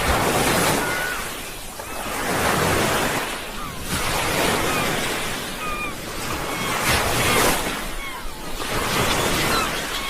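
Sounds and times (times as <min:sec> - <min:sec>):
sea waves washing in: 0:00.0 - 0:10.0.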